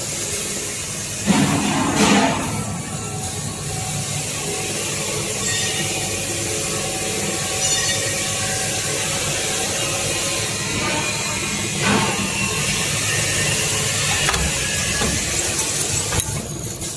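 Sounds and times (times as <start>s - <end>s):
machine running: 0.0s - 16.9s.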